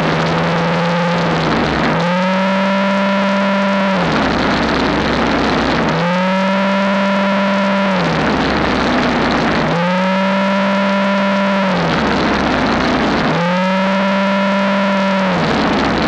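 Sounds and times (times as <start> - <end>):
snowblower running: 0.0 - 16.0.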